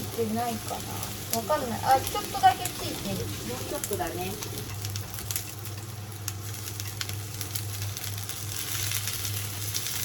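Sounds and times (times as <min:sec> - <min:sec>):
peppers sizzling in a frying pan: 0:00.0 - 0:10.0.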